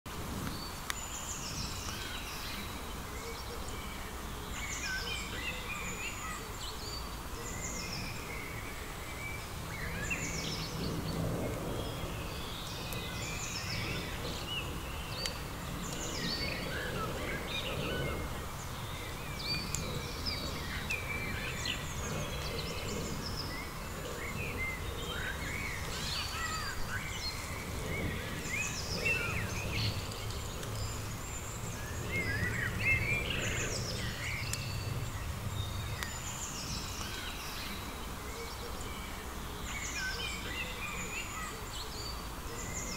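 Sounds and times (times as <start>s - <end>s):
low background noise: 0.1s - 42.9s
songbirds chirping: 0.1s - 42.9s.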